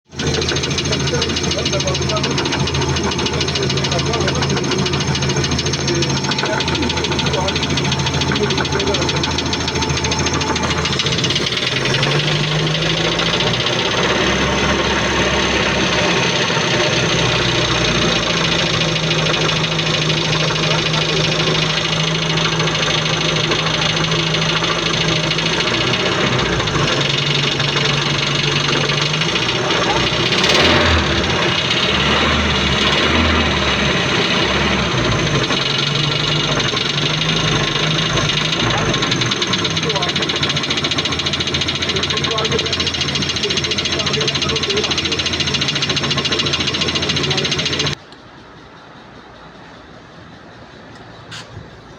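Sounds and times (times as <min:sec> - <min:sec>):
car engine running: 0:00.0 - 0:51.9
rapid mechanical clatter: 0:00.0 - 0:51.9.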